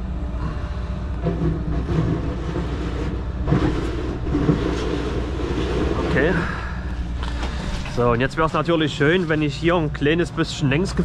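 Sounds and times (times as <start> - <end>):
machine engine running: 0.0 - 11.0.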